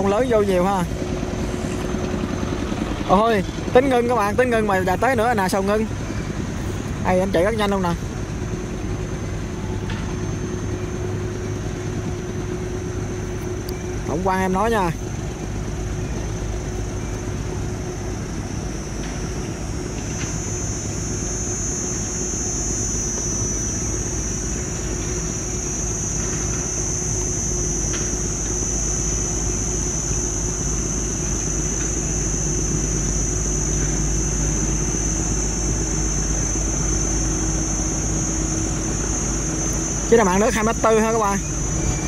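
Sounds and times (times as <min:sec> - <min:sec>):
barge diesel engine drone: 0:00.0 - 0:42.0
high-pitched insect drone: 0:00.0 - 0:42.0.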